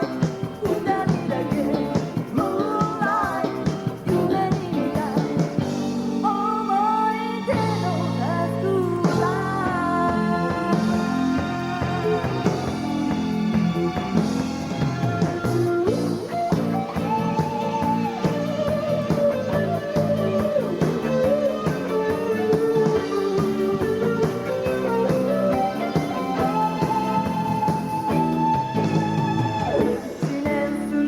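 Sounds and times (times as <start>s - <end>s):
lead guitar melody: 0.0s - 31.0s
live band playing: 0.0s - 31.0s.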